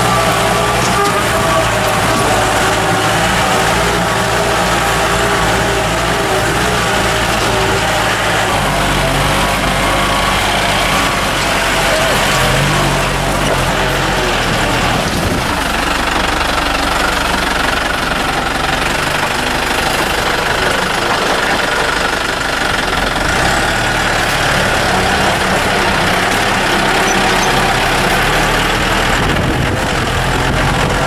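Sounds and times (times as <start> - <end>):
road and bodywork noise: 0.0 - 31.0
vehicle engine running: 0.0 - 31.0.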